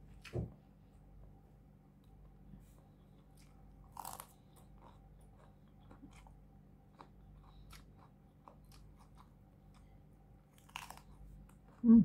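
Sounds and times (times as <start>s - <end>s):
person chewing crunchy food: 2.1s - 11.8s.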